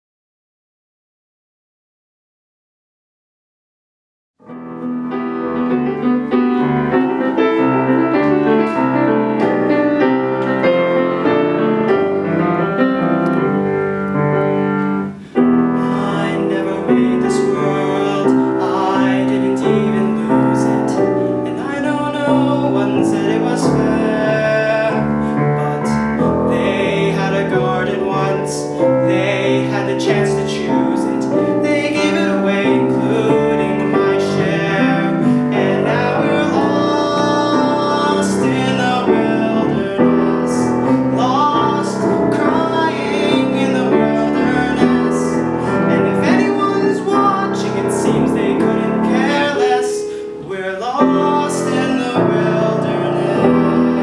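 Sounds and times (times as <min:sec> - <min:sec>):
piano accompaniment: 0:04.4 - 0:54.0
young man singing: 0:05.9 - 0:54.0.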